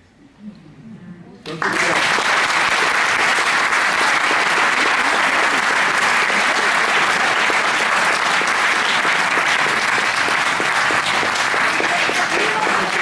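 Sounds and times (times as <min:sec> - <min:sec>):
audience applauding: 0:01.5 - 0:13.0.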